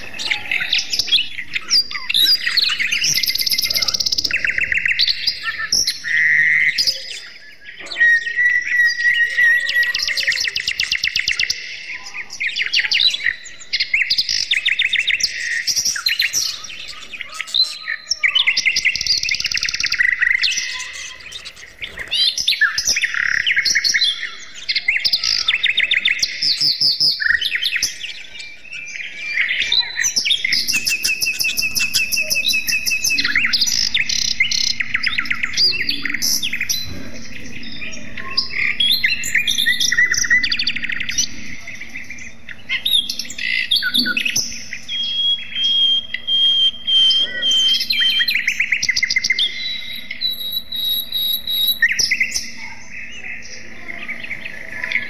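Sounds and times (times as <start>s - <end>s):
budgerigars chattering and warbling: 0.0s - 55.0s.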